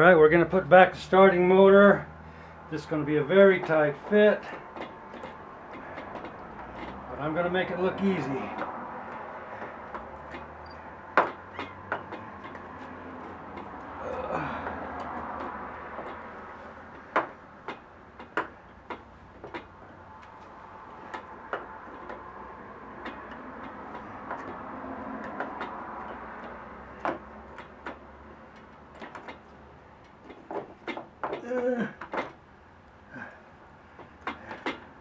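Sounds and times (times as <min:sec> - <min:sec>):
steady background noise: 0:00.0 - 0:35.0
metal clicks and knocks: 0:02.9 - 0:33.0, 0:33.9 - 0:35.0.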